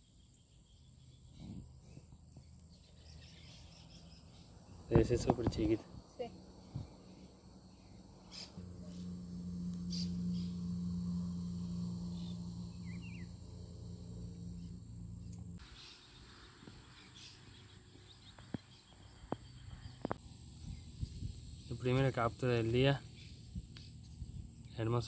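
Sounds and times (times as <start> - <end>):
insects chirring: 0.0 - 25.0
low steady hum: 0.0 - 25.0.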